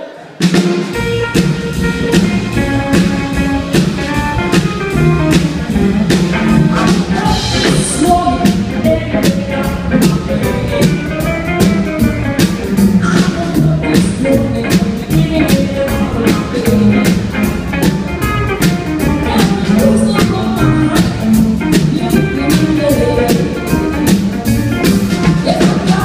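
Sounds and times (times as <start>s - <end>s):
electric guitar: 0.2s - 26.0s
drum kit beat: 0.3s - 26.0s
upright double bass: 0.5s - 26.0s.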